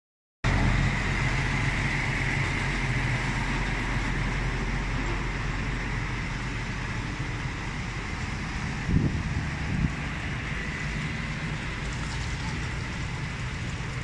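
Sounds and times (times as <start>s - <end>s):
diesel truck engine idling: 0.4s - 14.0s.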